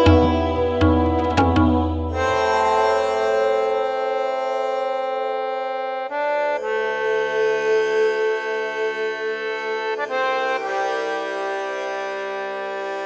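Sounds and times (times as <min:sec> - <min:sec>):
music of long held chords: 0:00.0 - 0:13.0.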